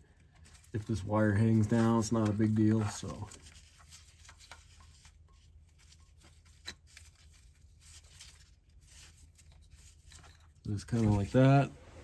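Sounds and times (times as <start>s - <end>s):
gloved hands rustling: 0.0s - 12.0s.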